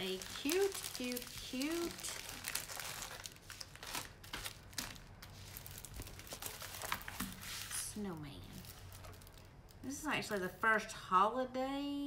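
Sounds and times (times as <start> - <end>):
plastic film and paper crinkling: 0.0 - 10.4.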